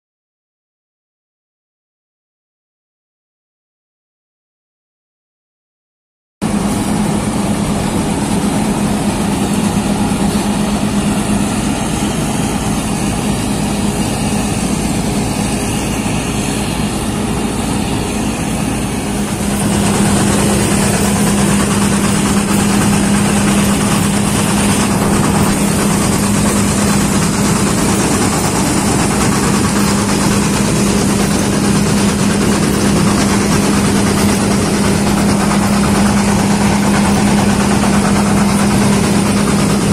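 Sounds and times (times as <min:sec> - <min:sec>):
combine harvester running: 0:06.4 - 0:39.9.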